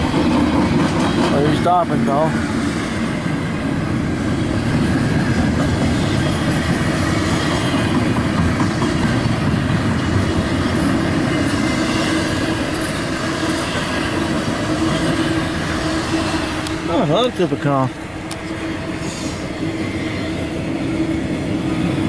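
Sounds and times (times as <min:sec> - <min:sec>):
freight train wheels on rails: 0:00.0 - 0:22.0.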